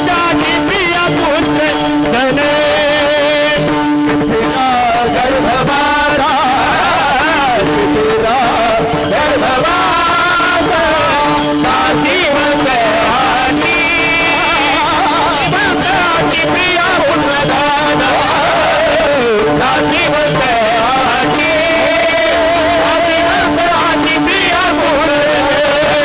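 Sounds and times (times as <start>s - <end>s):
hand cymbals struck: 0.0s - 26.0s
person singing devotional song: 0.0s - 26.0s.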